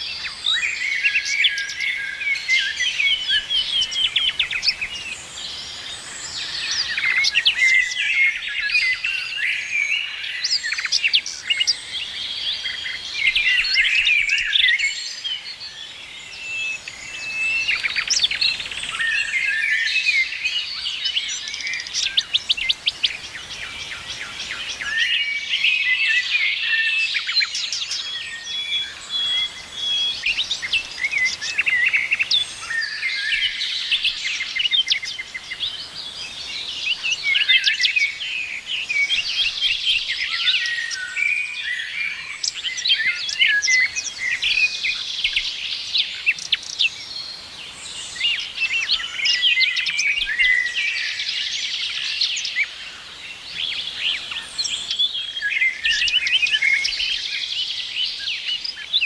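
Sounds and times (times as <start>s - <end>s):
faint steady hiss: 0.0s - 59.0s
songbirds chirping and trilling: 0.0s - 59.0s.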